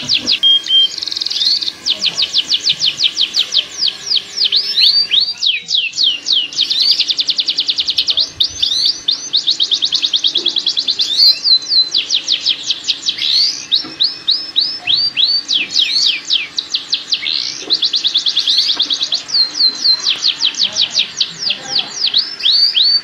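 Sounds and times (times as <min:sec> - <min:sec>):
canary trilling song: 0:00.0 - 0:23.0.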